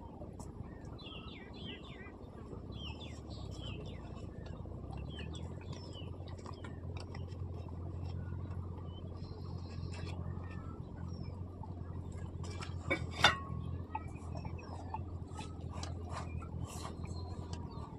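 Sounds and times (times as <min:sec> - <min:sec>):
low hum: 0:00.0 - 0:17.9
small birds chirping: 0:00.0 - 0:17.9.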